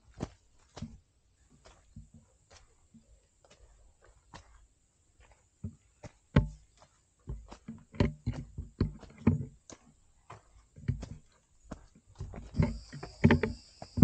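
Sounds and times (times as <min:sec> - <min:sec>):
footsteps on trail: 0:00.0 - 0:14.0.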